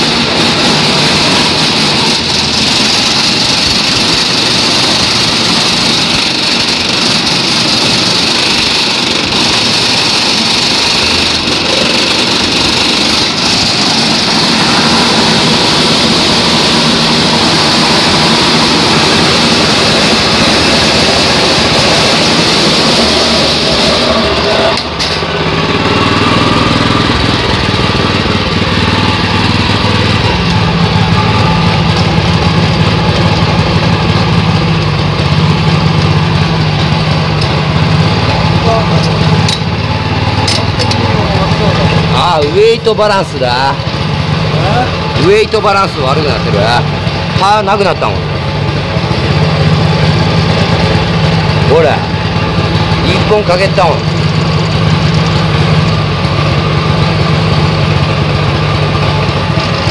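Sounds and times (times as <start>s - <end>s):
mower engine running loud: 0.0s - 59.9s.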